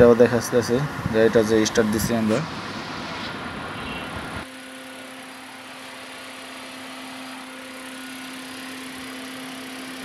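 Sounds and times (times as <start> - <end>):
car running steady hum: 0.0 - 10.0.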